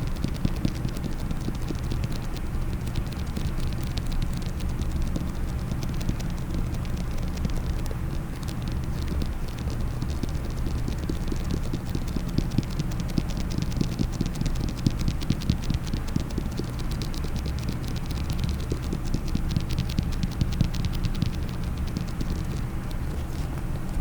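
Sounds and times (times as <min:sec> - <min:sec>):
steady low hum: 0:00.0 - 0:24.0
tapping and scratching on a case: 0:00.2 - 0:24.0.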